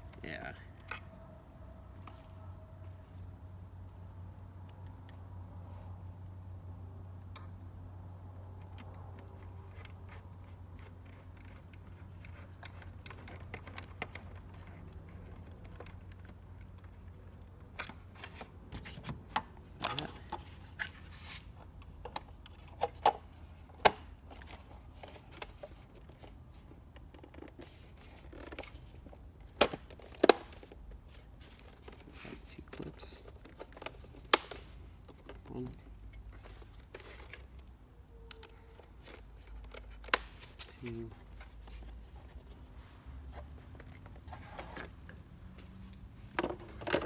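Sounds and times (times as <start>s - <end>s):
plastic parts rustling and scraping: 8.6s - 47.0s.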